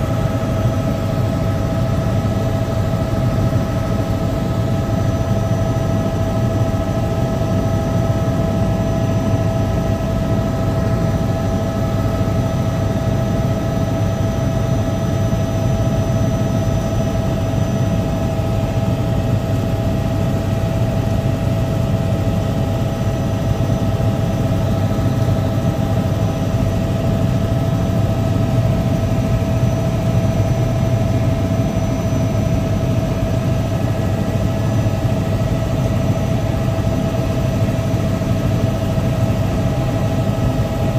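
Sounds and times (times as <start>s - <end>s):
constant whine: 0.0s - 40.9s
helicopter engine and rotor drone: 0.0s - 40.9s.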